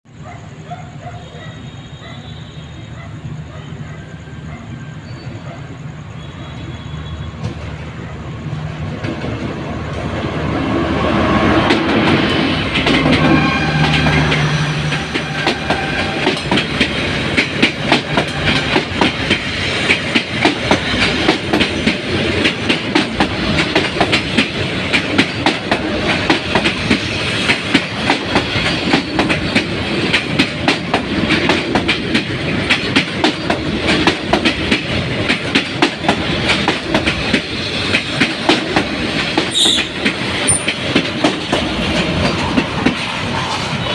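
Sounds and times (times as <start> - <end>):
diesel locomotive engine: 0.1 - 43.9
train wheels clattering: 7.3 - 43.9.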